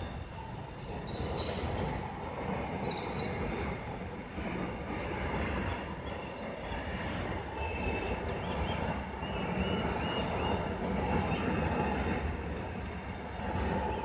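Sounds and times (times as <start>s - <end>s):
freight train wagons rolling past: 0.0s - 14.0s.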